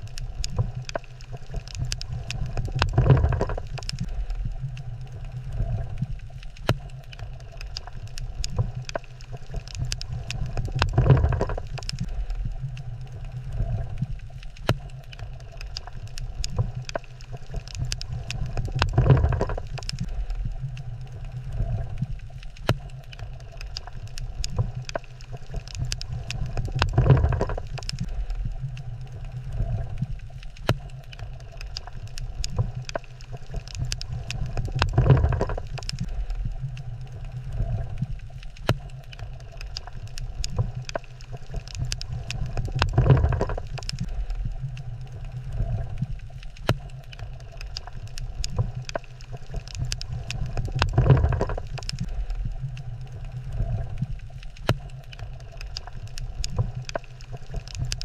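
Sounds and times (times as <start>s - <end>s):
crackle of sharp clicks: 0.0s - 58.0s
low underwater rumble: 0.0s - 58.0s.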